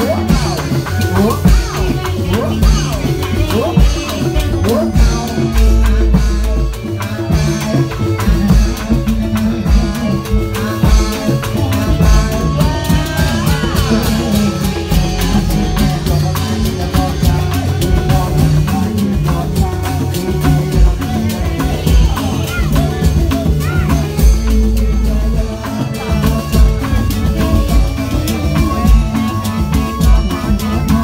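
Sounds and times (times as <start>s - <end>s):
loud music with drumming: 0.0s - 31.0s
person singing: 0.0s - 31.0s.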